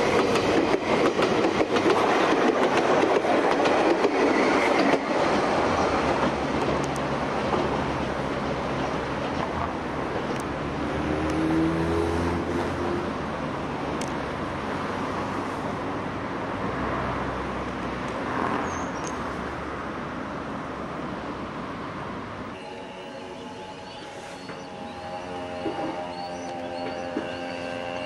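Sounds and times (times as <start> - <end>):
traffic noise: 0.0 - 28.0
train running on track: 0.0 - 28.0.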